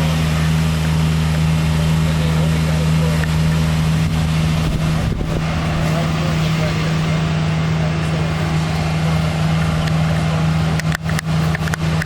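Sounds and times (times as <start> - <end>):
diesel engine humming: 0.0 - 12.0
high-pressure water spraying on concrete: 0.0 - 12.0.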